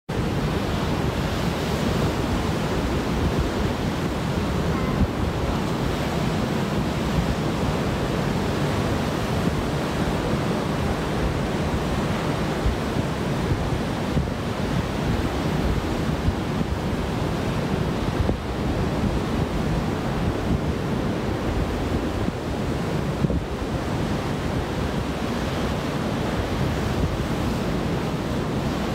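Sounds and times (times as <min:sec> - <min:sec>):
surf breaking on beach: 0:00.1 - 0:28.9
wind buffeting microphone: 0:00.1 - 0:28.9.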